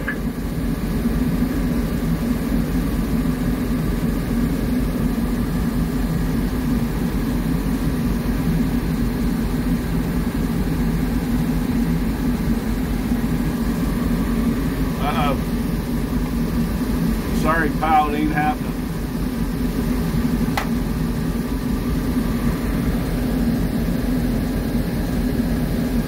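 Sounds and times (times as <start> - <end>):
diesel locomotive engine idling: 0.0 - 26.0.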